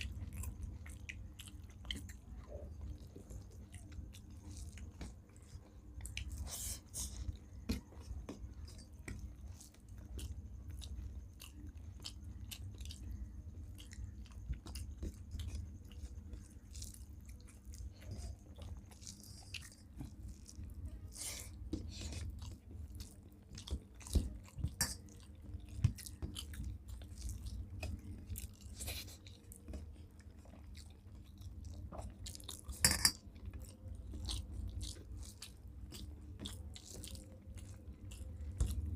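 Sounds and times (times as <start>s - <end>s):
people chewing food: 0.0s - 38.9s.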